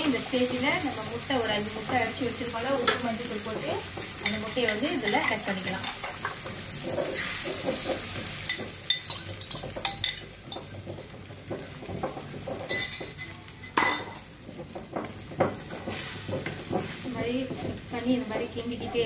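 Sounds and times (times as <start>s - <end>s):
eggs sizzling in a pan: 0.0s - 19.0s
utensils clinking against pan: 1.5s - 18.1s
wooden spatula stirring: 1.6s - 13.4s, 14.2s - 19.0s.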